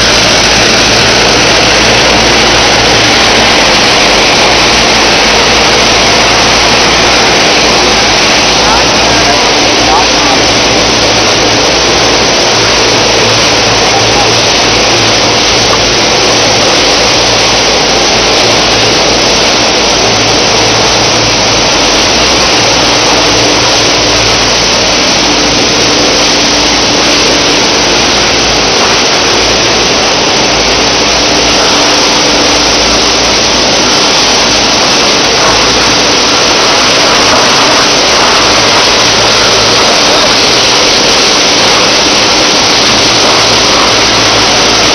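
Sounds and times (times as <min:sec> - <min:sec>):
conveyor machinery running: 0:00.0 - 0:44.9.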